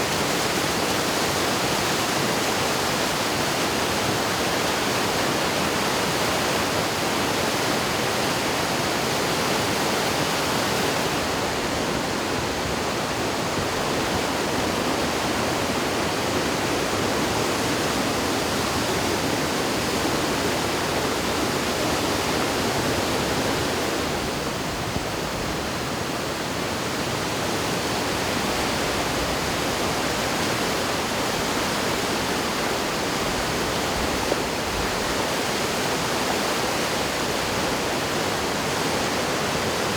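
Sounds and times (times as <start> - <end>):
river rushing roar: 0.0 - 39.9.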